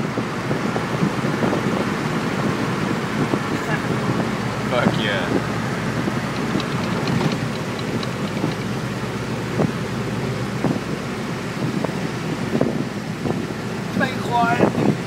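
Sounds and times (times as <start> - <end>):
car engine running: 0.0 - 15.0
road noise: 0.0 - 15.0
wind noise: 0.0 - 15.0.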